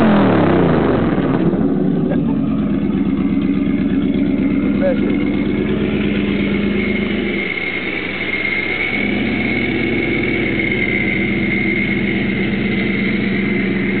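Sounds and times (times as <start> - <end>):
car engine idling rumble: 0.0 - 14.0
supercharger whine: 0.0 - 14.0.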